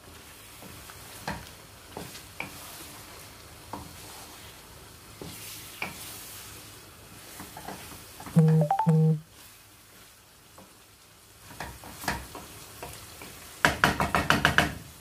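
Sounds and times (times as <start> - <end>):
slices sizzling in hot oil: 0.0 - 8.3, 9.2 - 15.0.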